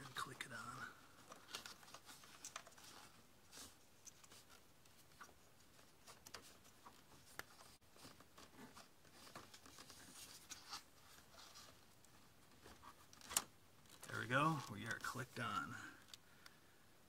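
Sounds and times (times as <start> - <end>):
rubber hose clicking and rubbing: 1.1 - 16.6.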